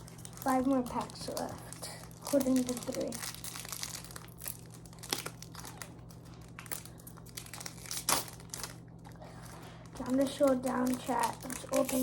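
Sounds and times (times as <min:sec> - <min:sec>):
foil wrappers crinkling: 0:00.0 - 0:12.0.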